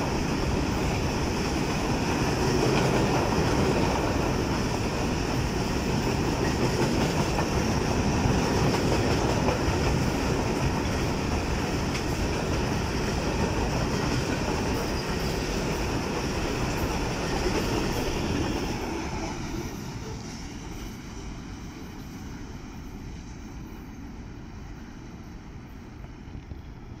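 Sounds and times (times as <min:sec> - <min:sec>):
freight train wheels on rails: 0:00.0 - 0:27.0.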